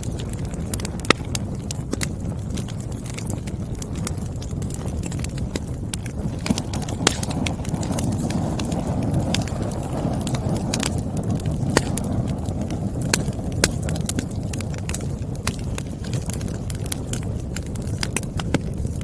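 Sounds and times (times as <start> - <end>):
logs crackling and popping: 0.0 - 19.0
rush of flame: 0.0 - 19.0.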